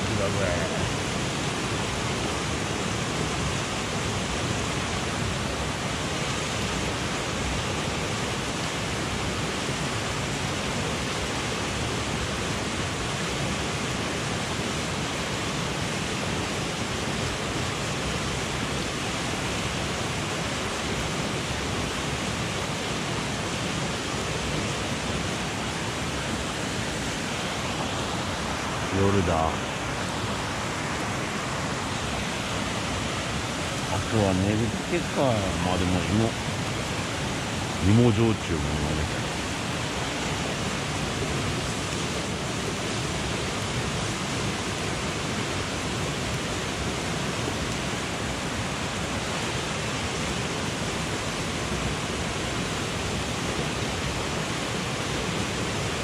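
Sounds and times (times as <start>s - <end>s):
stream rushing: 0.0s - 56.0s.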